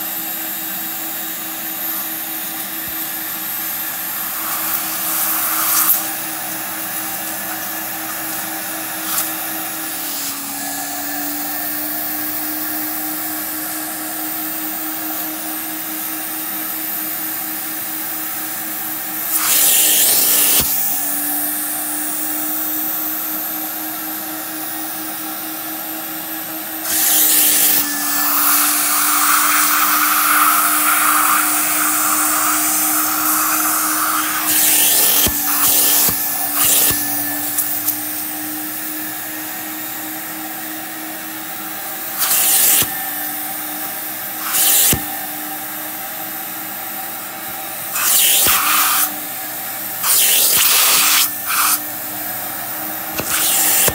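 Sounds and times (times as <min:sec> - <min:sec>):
vacuum motor humming: 0:00.0 - 0:53.9.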